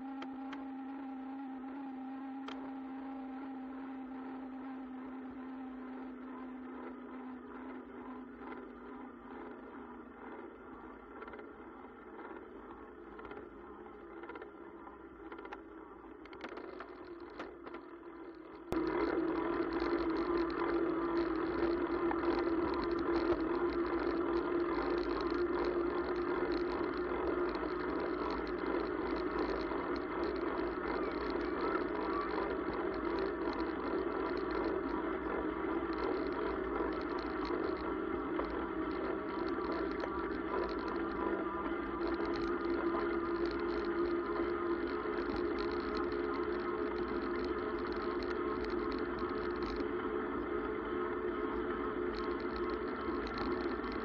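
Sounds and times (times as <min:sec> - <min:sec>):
electric motor whine: 0:00.0 - 0:15.6, 0:16.2 - 0:54.0.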